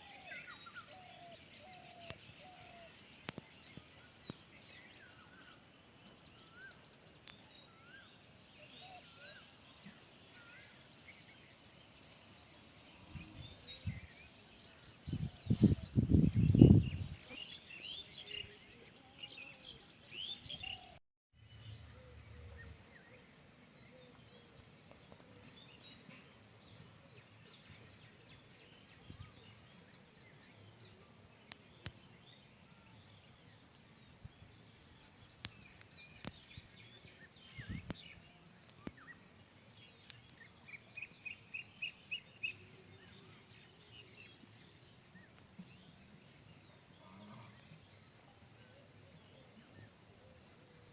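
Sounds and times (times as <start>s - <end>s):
birds chirping faintly: 0.0s - 50.9s.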